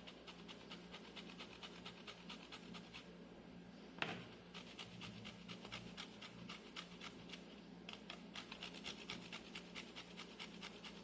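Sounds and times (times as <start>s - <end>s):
lemon rind grating: 0.0s - 3.1s, 4.5s - 11.0s.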